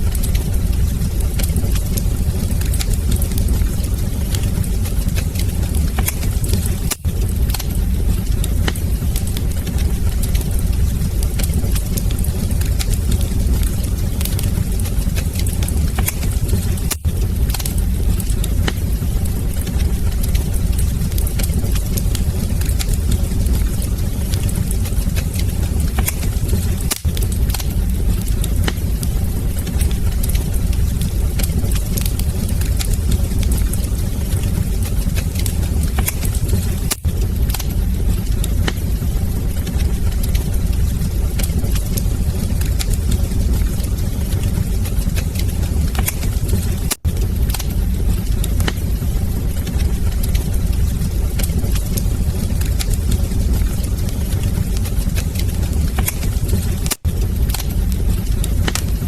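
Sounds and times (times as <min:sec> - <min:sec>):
sharp pops and snaps: 0:00.0 - 0:39.0, 0:41.4 - 0:49.0, 0:49.7 - 0:59.0
low rumble of flames: 0:00.0 - 0:59.0
wood fire crackling: 0:00.0 - 0:59.0.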